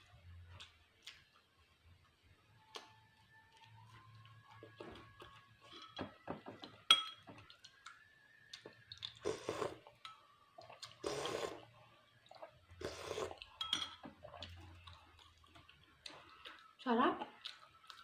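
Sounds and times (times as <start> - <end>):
longer noisy eating sounds: 0.0 - 18.0
chewing: 0.4 - 1.7, 2.6 - 6.0, 6.6 - 18.0.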